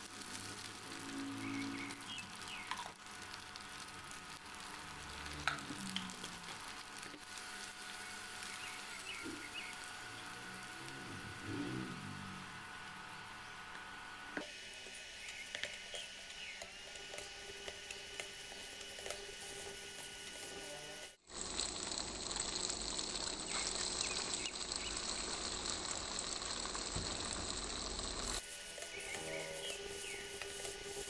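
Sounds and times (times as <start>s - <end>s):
noodles sizzling in a frying pan: 0.0s - 31.0s.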